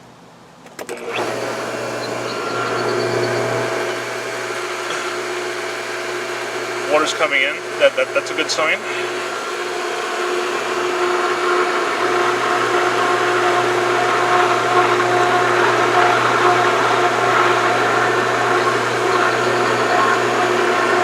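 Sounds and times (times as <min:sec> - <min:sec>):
pool pump motor hum: 0:00.8 - 0:21.0.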